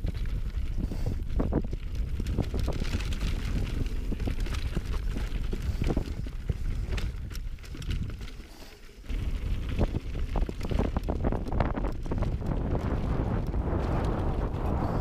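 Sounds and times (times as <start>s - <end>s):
bike clattering over rough trail: 0.0s - 15.0s
wind buffeting microphone: 0.0s - 15.0s.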